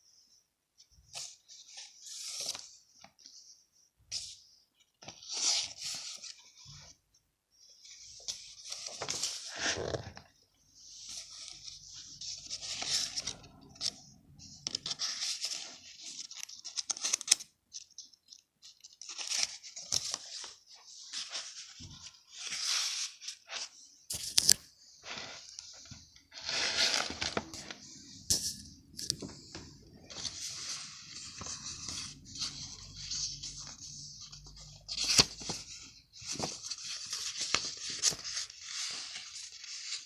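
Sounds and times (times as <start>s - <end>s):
paper rustling and scraping: 7.8s - 40.0s.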